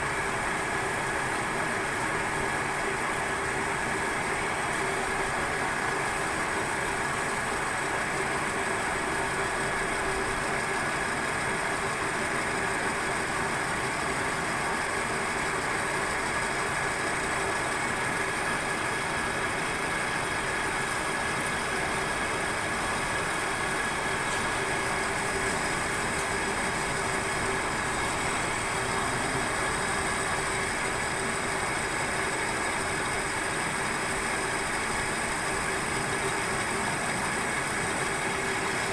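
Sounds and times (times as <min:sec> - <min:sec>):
metal lathe running: 0:00.0 - 0:38.9.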